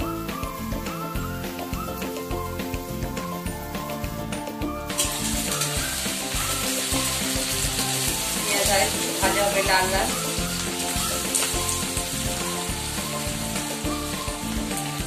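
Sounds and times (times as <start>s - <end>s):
background music: 0.0s - 15.0s
onions sizzling in hot oil: 0.0s - 15.0s.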